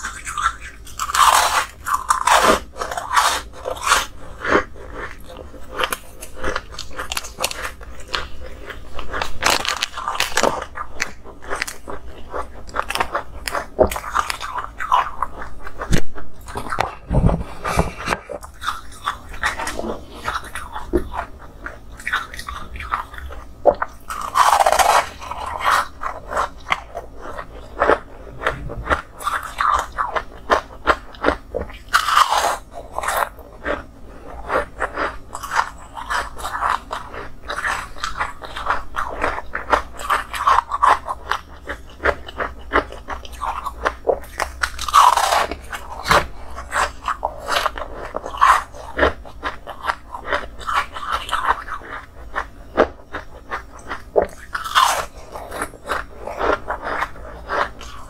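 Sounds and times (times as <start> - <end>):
ice crunching in mouth: 0.0 - 58.0.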